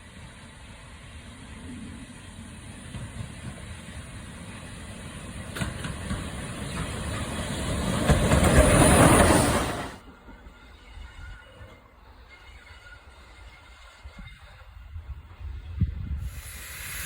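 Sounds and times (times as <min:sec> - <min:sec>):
train approaching: 0:00.0 - 0:17.0.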